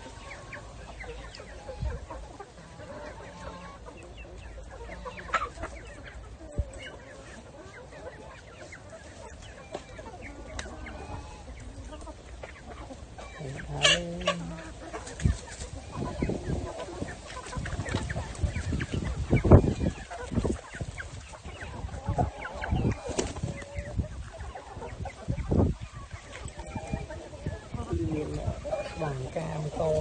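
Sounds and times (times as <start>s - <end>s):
chicken squawk: 0.0s - 29.2s
chickens clucking: 0.0s - 30.0s.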